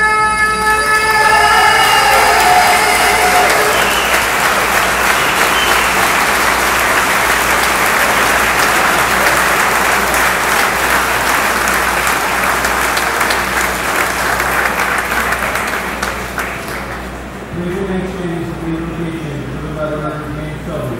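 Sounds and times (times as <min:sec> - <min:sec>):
crowd applauding: 0:00.7 - 0:17.5.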